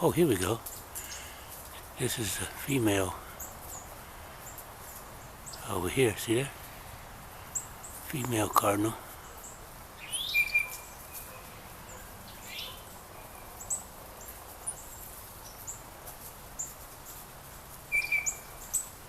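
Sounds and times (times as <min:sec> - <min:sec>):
songbirds calling: 0:00.0 - 0:19.0.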